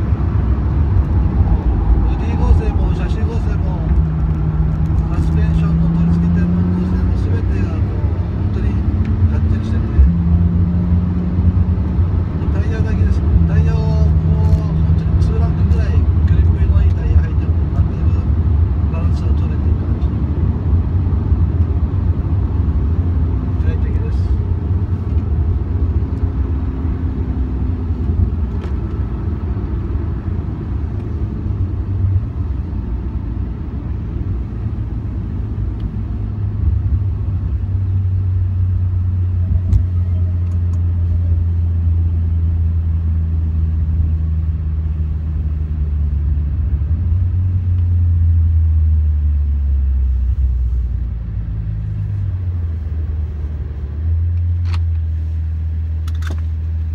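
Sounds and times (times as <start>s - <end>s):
car engine drone in cabin: 0.0s - 56.9s.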